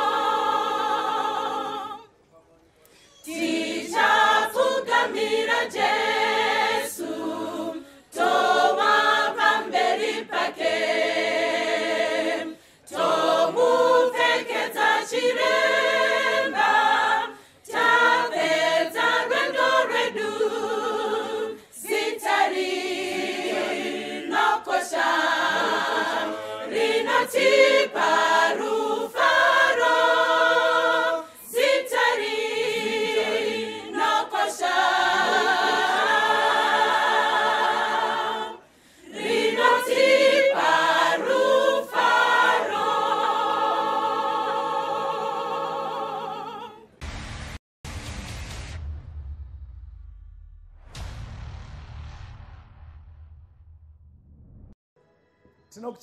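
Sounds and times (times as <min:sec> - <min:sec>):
choir singing a cappella: 0:00.0 - 0:02.2, 0:03.2 - 0:47.0.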